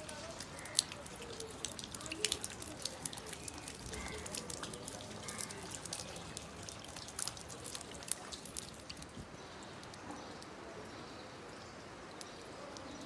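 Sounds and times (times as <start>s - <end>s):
rain falling into a puddle: 0.0s - 13.0s.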